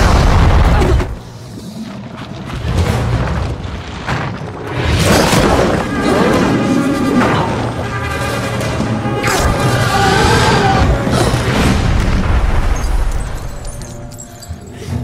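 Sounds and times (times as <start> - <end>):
dramatic film music: 0.0 - 15.0.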